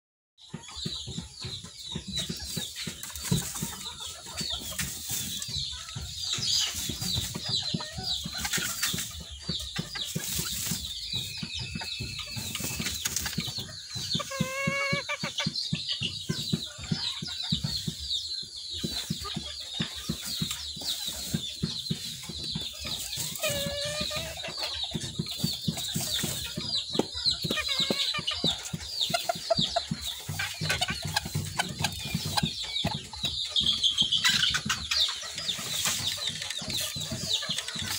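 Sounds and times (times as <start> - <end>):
chickens clucking: 0.4 - 37.9
scratchy patter of clicks: 0.6 - 37.9.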